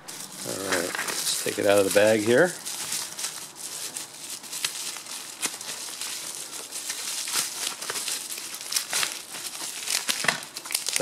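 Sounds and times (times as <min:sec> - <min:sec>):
bubble wrap crinkling: 0:00.0 - 0:11.0
sharp crackles: 0:00.0 - 0:11.0.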